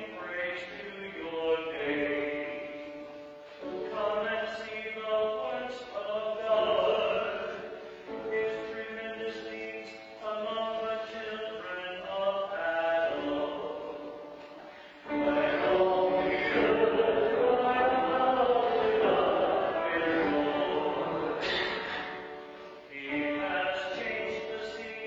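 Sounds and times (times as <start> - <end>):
man chanting a psalm: 0.0 - 3.2, 3.8 - 14.2, 15.1 - 21.5, 22.9 - 25.0
keyboard accompaniment: 0.0 - 25.0.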